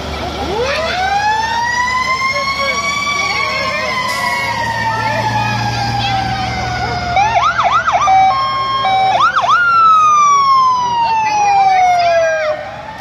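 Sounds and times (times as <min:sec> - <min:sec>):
fire truck sirens: 0:00.0 - 0:13.0.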